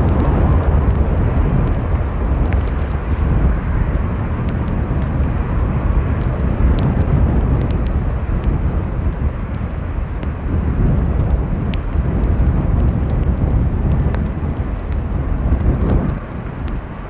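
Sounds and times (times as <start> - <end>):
distant jet noise: 0.0 - 17.0
light rain ticks: 0.0 - 17.0
wind buffeting microphone: 0.0 - 17.0.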